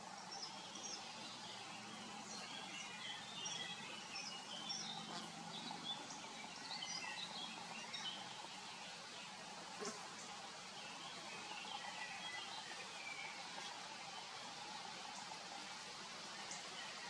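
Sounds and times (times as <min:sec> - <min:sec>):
faint background hiss: 0:00.0 - 0:17.0
small birds chirping and singing: 0:00.0 - 0:17.0.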